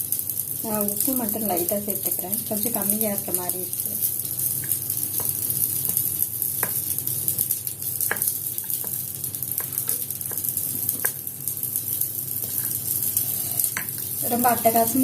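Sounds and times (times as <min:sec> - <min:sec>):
chutney sizzling in hot oil: 0:00.0 - 0:15.0.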